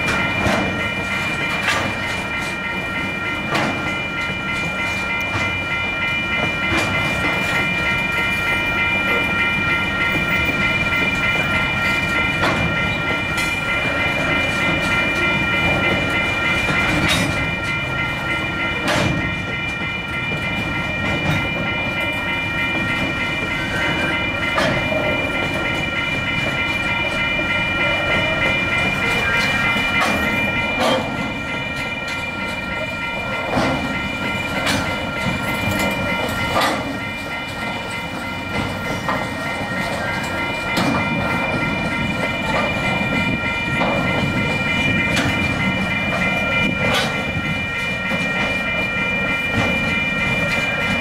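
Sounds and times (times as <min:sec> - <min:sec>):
freight train wheels clattering: 0:00.0 - 0:51.0
steady high warning tones: 0:00.0 - 0:51.0
train rumble: 0:00.0 - 0:51.0.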